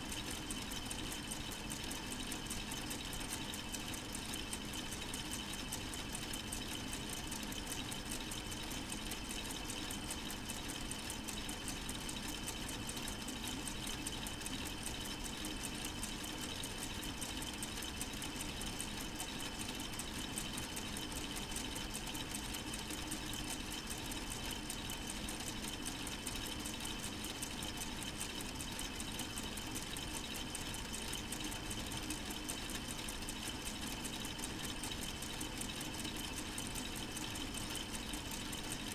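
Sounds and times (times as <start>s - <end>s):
plastic gears clicking whirr: 0.0s - 38.9s.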